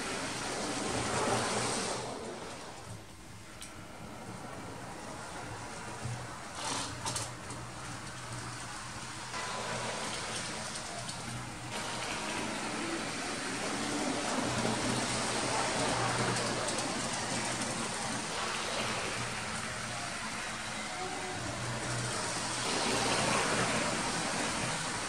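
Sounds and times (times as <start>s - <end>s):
wheels rolling on track: 0.0s - 25.0s.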